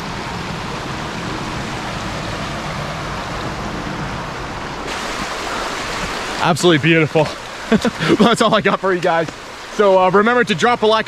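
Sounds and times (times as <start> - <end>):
river running over stones: 0.0 - 11.0.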